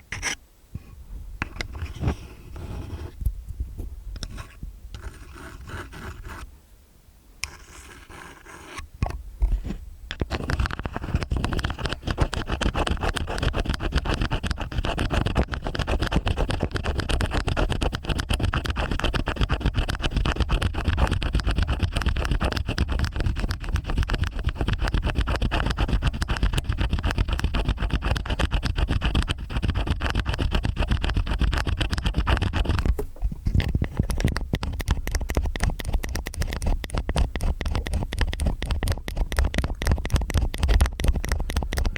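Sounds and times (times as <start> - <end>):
ear picks scraping: 4.2 - 6.5, 7.4 - 41.9.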